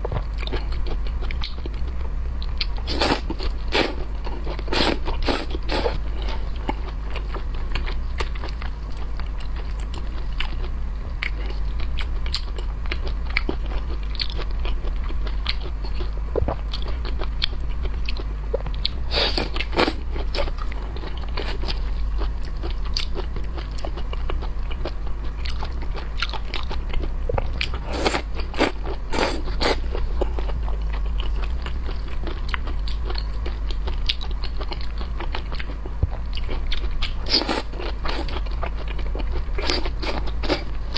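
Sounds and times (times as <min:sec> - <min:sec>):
crunching and chewing seafood: 0:00.0 - 0:40.9.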